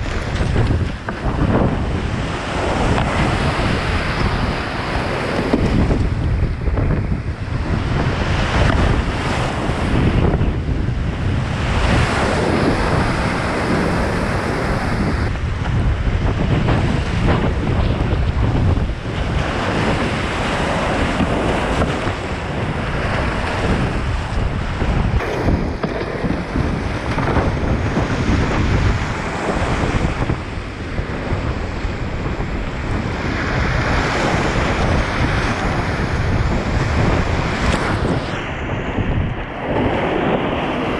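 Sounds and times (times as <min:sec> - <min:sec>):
whitewater roaring: 0:00.0 - 0:40.9
wind buffeting microphone: 0:00.0 - 0:40.9.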